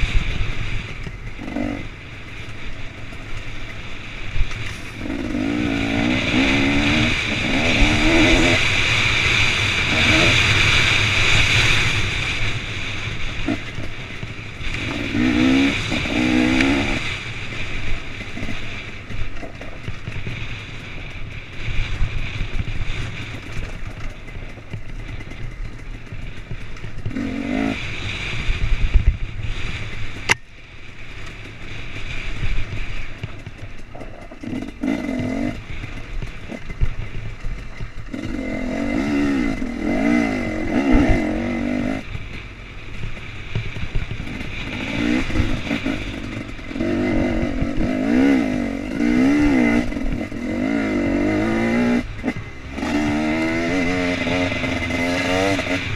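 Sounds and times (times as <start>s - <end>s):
motorcycle engine revving: 0.0s - 55.9s
rumble and clatter from trail: 0.0s - 55.9s.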